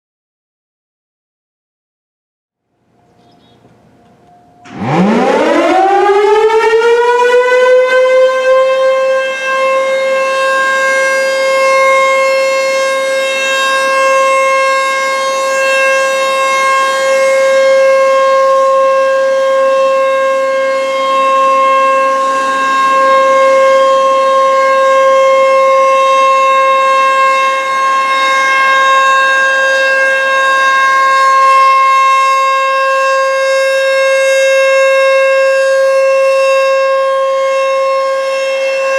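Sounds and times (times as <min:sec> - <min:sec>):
outdoor warning siren: 0:02.6 - 0:38.9.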